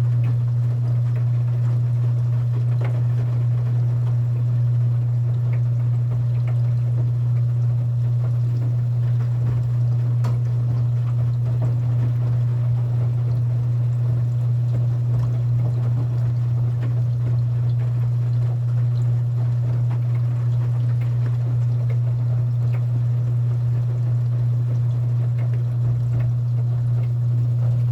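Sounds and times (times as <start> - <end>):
washing machine humming: 0.0 - 27.9
water moving in drum: 0.0 - 27.9.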